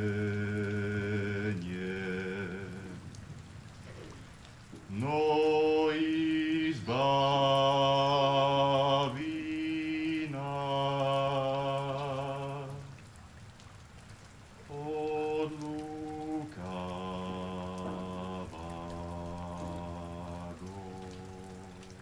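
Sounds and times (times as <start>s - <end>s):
man singing a slow chant: 0.0s - 3.2s, 4.9s - 13.0s, 14.7s - 22.0s.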